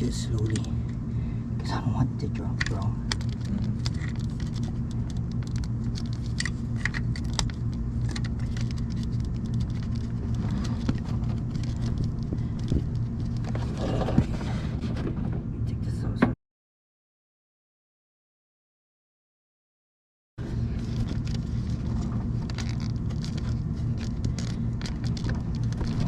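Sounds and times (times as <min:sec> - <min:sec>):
steady low hum: 0:00.0 - 0:16.4, 0:20.4 - 0:26.0.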